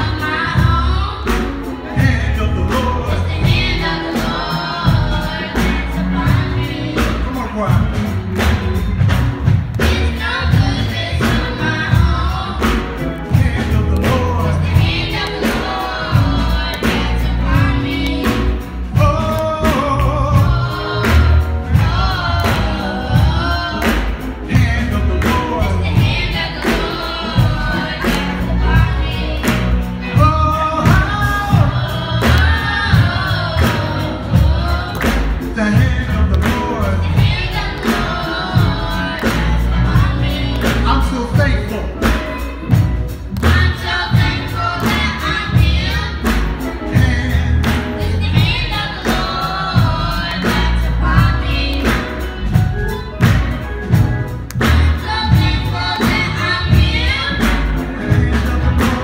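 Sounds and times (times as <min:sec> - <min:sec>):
choir singing gospel: 0:00.0 - 0:59.0
heavy bass: 0:00.0 - 0:59.0
steady drum beat: 0:00.0 - 0:59.0.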